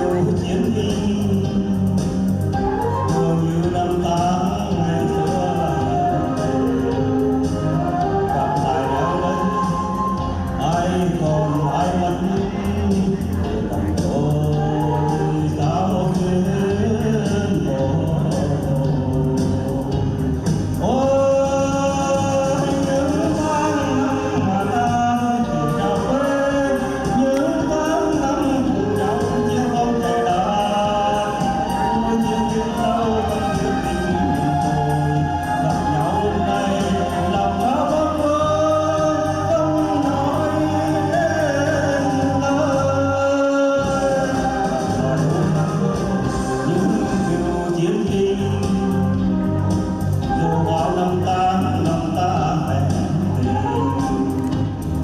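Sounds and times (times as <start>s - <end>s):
amplified musical accompaniment: 0.0s - 55.0s
person singing: 0.0s - 55.0s.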